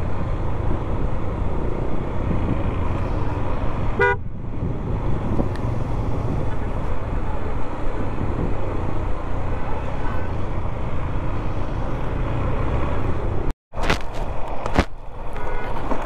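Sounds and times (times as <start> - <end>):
motorcycle engine and road noise: 0.0 - 16.0.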